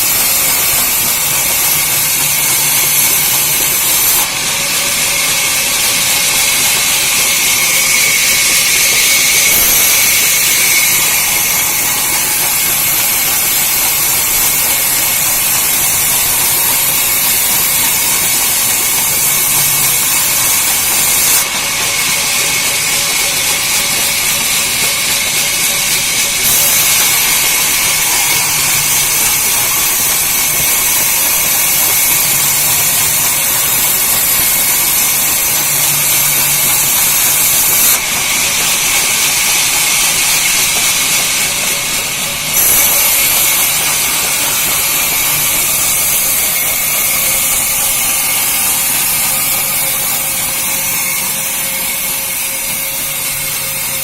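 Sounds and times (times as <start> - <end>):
saw cutting through a log: 0.0 - 54.0.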